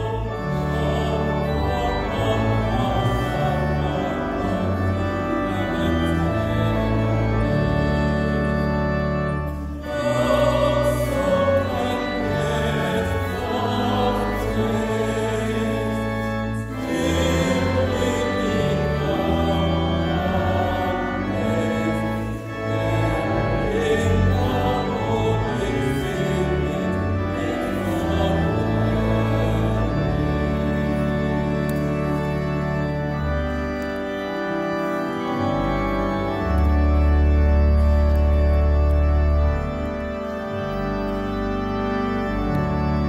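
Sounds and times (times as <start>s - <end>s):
choir singing a hymn: 0.0s - 43.0s
organ chords: 0.0s - 43.0s.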